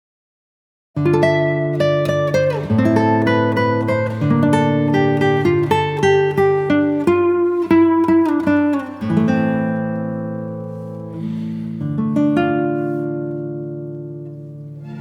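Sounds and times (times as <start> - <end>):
acoustic guitar music: 1.0 - 15.0.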